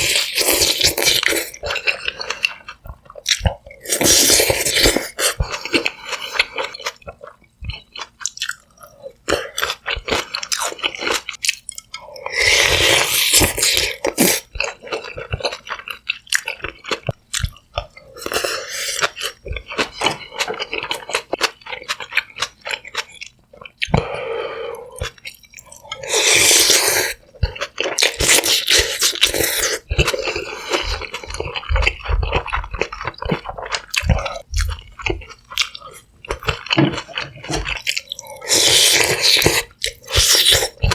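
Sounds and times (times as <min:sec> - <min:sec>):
close-miked chewing: 0:00.0 - 0:24.2, 0:24.8 - 0:40.9.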